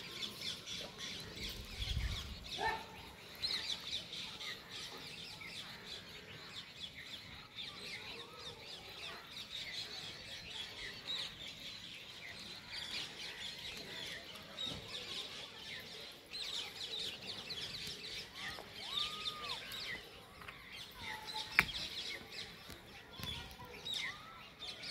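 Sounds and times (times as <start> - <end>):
birds chirping and twittering: 0.0 - 24.9.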